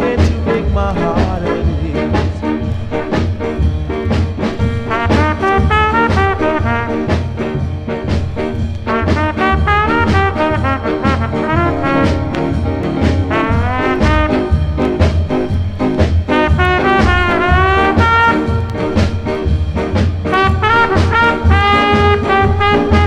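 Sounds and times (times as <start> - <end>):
reggae horns playing a melody: 0.0 - 23.0
steady bass beat: 0.0 - 23.0.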